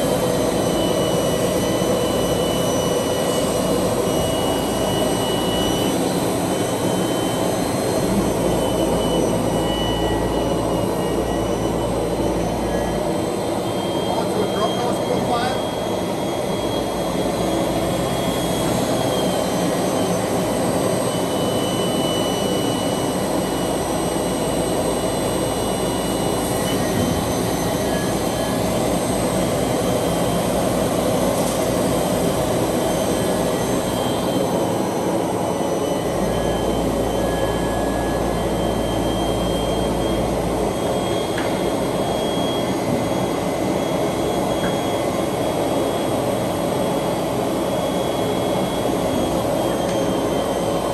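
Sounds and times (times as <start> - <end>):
thin whining tones: 0.0 - 50.9.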